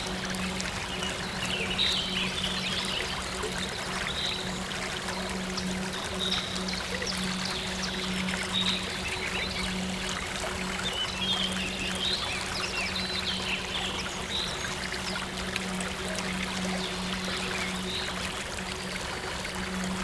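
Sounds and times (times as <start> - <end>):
low synth drone: 0.0 - 20.0
stream water rushing: 0.0 - 20.0.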